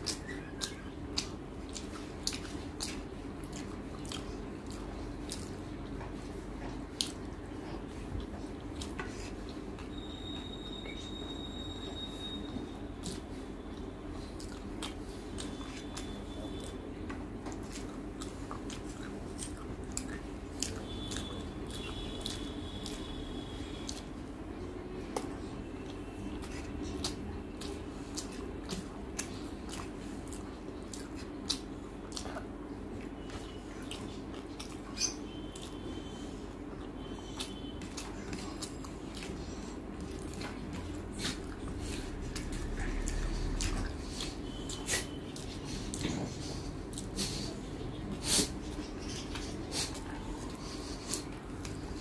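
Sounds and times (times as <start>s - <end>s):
mouth chewing with smacks: 0.0s - 52.0s
steady low hum: 0.0s - 52.0s.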